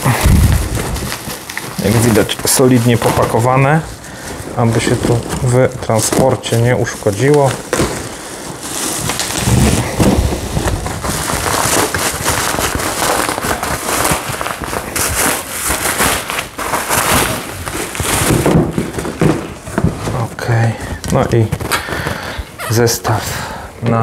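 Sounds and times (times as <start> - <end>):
bubble wrap crackling and rustling: 0.0 - 23.2.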